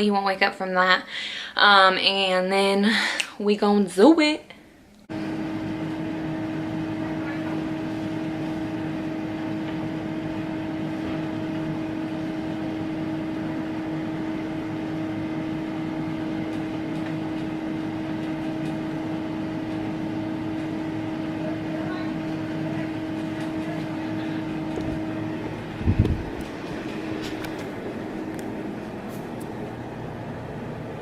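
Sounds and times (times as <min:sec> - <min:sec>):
vacuum cleaner motor running: 0:05.1 - 0:31.0.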